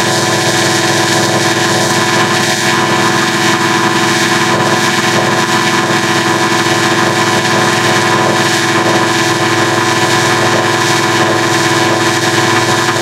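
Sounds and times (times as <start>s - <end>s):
buzzing electronic drone: 0.0s - 13.0s.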